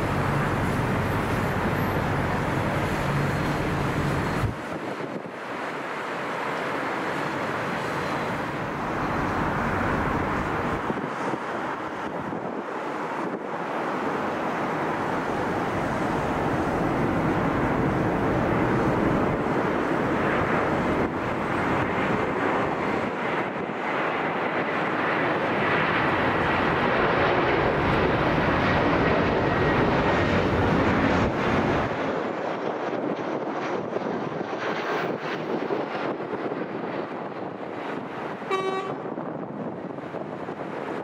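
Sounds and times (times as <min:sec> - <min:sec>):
high engine whine: 0:00.0 - 0:41.0
jet airliner passing overhead: 0:00.0 - 0:41.0.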